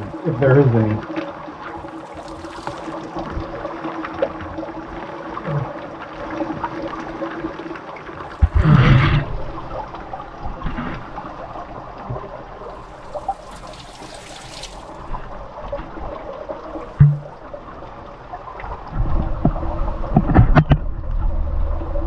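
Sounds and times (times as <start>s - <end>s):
water trickling over rocks: 0.0s - 8.8s, 9.4s - 19.9s.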